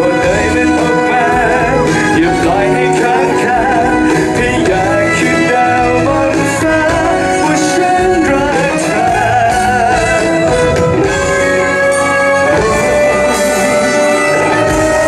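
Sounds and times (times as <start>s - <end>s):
drums: 0.0s - 15.0s
guitar: 0.0s - 15.0s
live band playing pop-rock: 0.0s - 15.0s
person singing: 0.0s - 15.0s.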